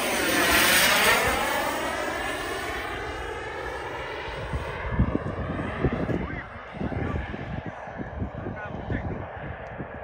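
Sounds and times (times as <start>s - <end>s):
model jet turbine passing overhead: 0.0s - 10.0s.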